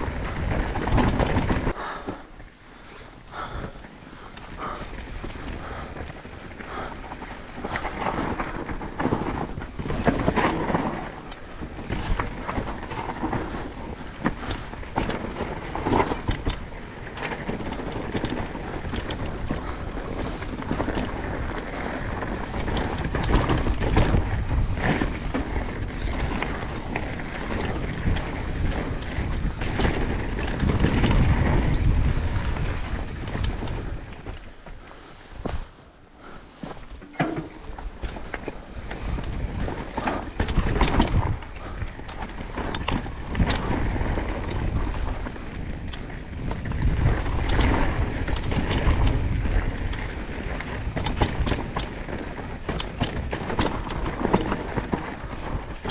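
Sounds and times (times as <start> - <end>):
bike rattling: 0.0 - 55.9
wind buffeting microphone: 0.0 - 55.9.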